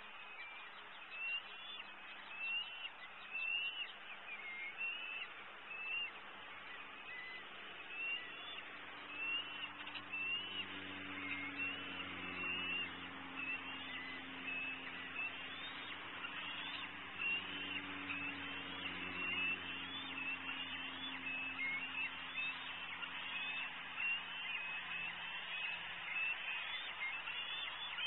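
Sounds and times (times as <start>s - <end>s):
birds chirping: 0.0s - 28.0s
road traffic hum: 0.0s - 28.0s.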